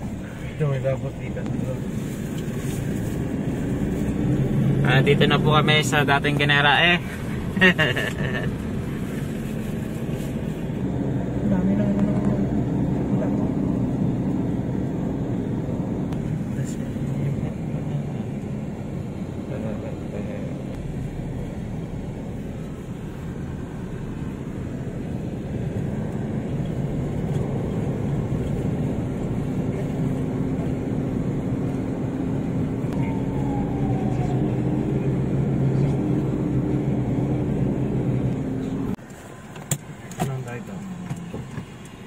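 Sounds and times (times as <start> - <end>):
car engine and tyre noise: 0.0 - 42.0.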